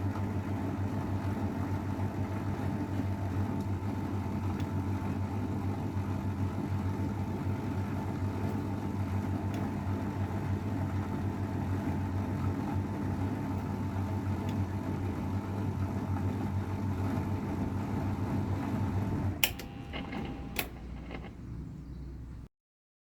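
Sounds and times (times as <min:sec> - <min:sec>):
washing machine humming: 0:00.0 - 0:22.5.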